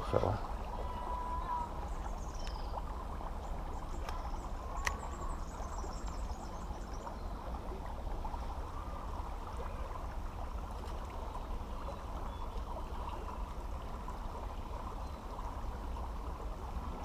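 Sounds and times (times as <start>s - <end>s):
creek flowing: 0.0s - 17.0s.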